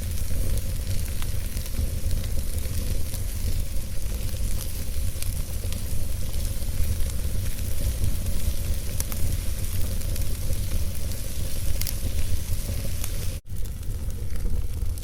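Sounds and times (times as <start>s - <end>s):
fire rumbling and hissing: 0.0s - 15.0s
wood crackling and popping: 0.0s - 15.0s.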